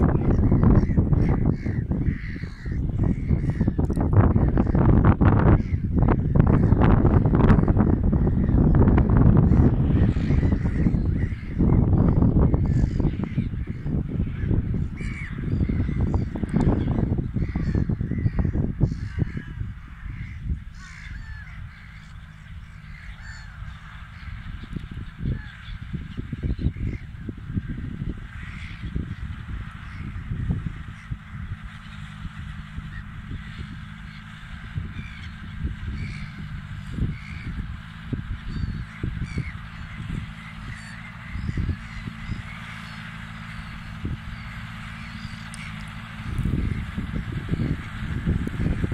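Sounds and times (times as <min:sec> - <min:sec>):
distant tractor engine drone: 0:00.0 - 0:48.9
gulls calling: 0:00.0 - 0:48.9
wind buffeting microphone: 0:00.0 - 0:48.9.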